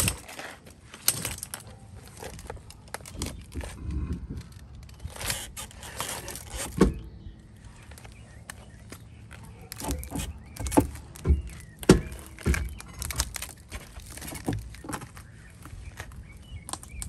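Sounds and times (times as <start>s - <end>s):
hands working at a wheel: 0.0s - 17.0s.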